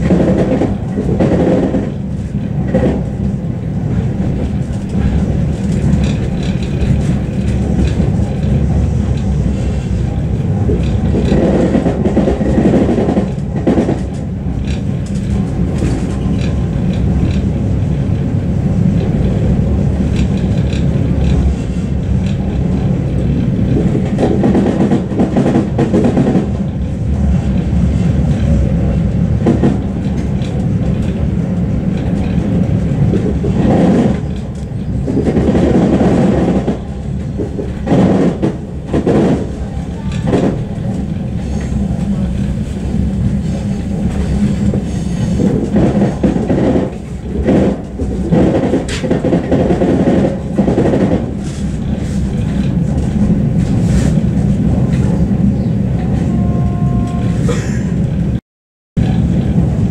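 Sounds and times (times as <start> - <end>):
train wheels rumbling on track: 0.0 - 58.4, 59.0 - 59.9.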